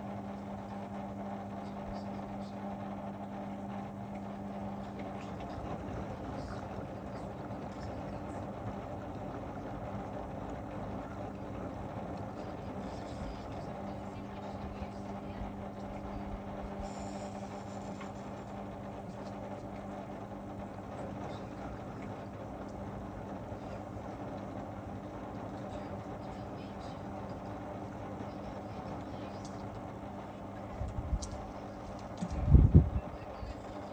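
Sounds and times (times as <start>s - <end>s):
washing machine running: 0.0s - 33.9s.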